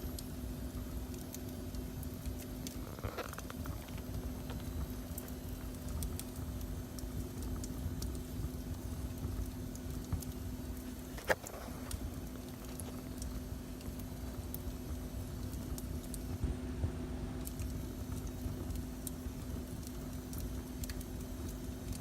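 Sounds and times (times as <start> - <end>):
faint steady hum: 0.0 - 22.0
wood fire crackling: 0.0 - 22.0.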